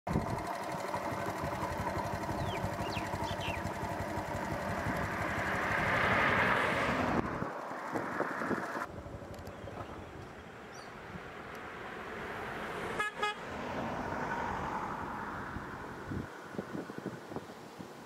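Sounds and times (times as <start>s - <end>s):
engine running with even throb: 0.1s - 17.2s
vehicle passing: 0.2s - 17.2s.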